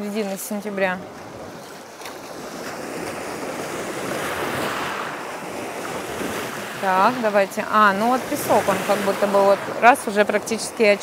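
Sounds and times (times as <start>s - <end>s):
surf washing onto shore: 0.4s - 11.0s.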